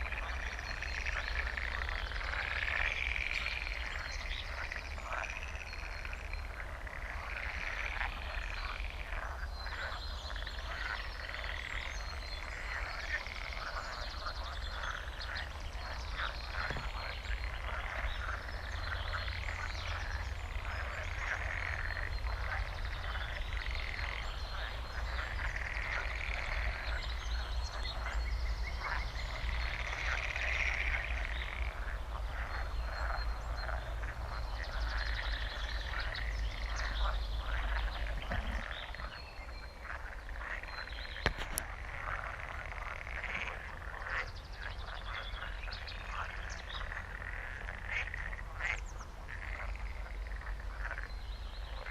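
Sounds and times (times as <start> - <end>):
frogs croaking: 0.0 - 51.9.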